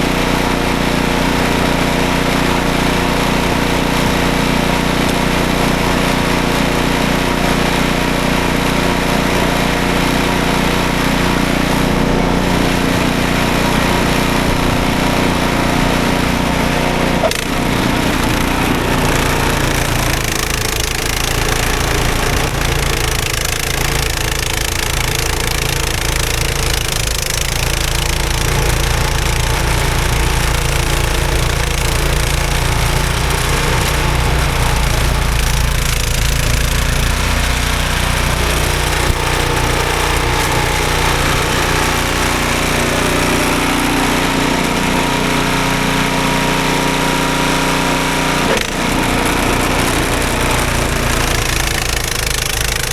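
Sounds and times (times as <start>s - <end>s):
snowblower engine running: 0.0s - 52.9s.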